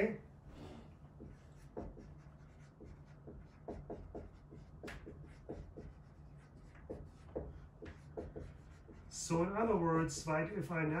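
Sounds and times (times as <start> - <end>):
marker writing on a whiteboard: 0.6 - 10.7.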